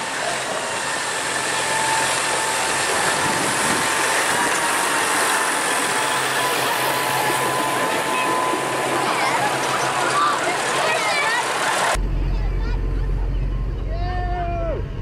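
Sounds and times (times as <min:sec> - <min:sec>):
tractor diesel engine passing: 0:00.0 - 0:15.0.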